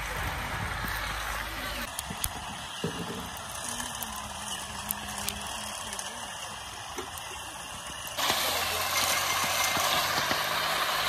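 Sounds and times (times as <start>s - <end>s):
faint voices: 0.0s - 10.0s
twig fire crackling: 0.0s - 11.0s.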